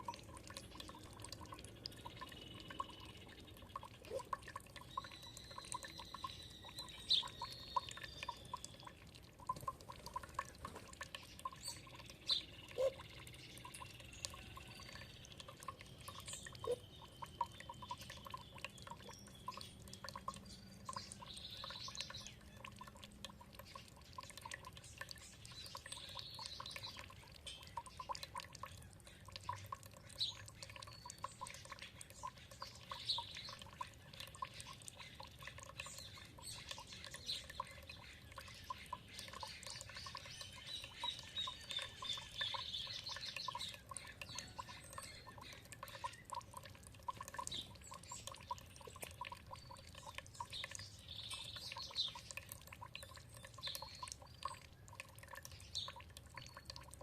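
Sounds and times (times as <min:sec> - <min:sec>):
songbirds chirping: 0:00.0 - 0:57.0
water dripping and trickling: 0:00.0 - 0:57.0.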